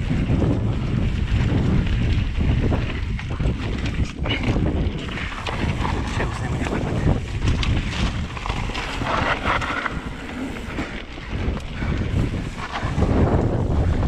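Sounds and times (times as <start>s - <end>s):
bike frame rattling: 0.0s - 14.0s
tyres rumbling on trail: 0.0s - 14.0s
wind buffeting microphone: 0.0s - 14.0s.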